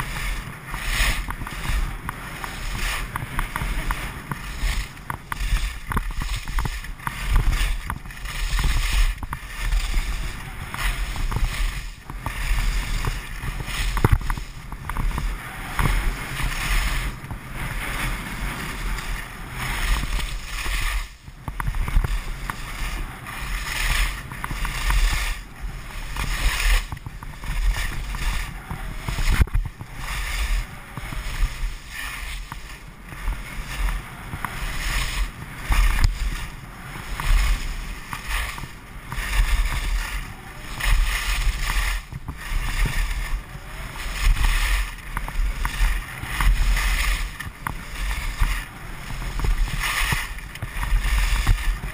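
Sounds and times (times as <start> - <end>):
skis scraping over snow: 0.0 - 51.9
wind rumble on microphone: 0.0 - 51.9.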